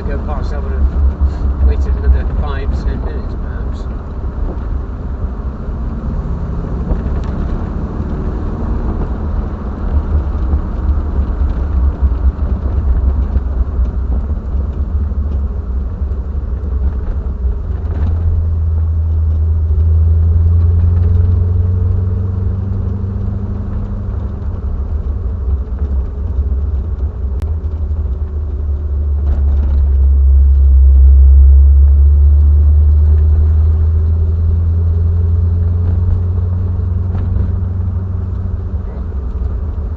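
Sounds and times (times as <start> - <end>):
car engine deep rumble: 0.0 - 39.9.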